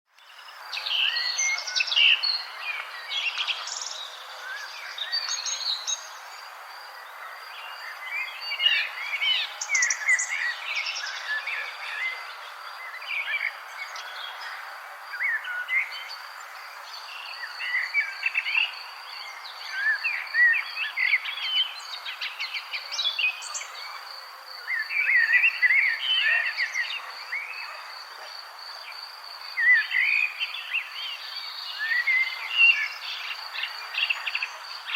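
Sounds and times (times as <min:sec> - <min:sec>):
birds chirping and singing: 0:00.3 - 0:28.3, 0:29.5 - 0:34.9.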